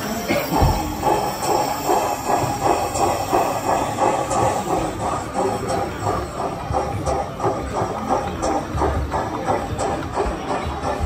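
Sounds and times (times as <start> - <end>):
model train steam chuffs: 0.0 - 11.0.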